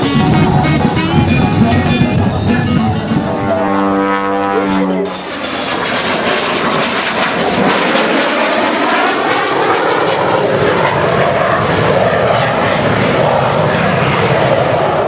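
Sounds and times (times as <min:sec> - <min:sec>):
airplane engine running: 0:00.0 - 0:15.0.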